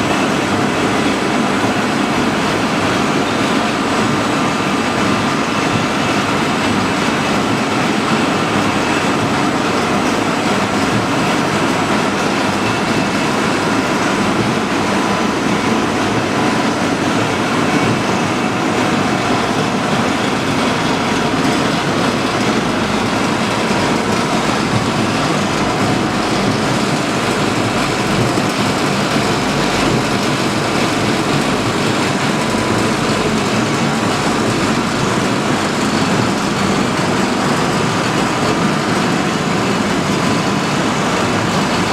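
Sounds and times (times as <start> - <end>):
industrial machinery din: 0.0 - 41.9.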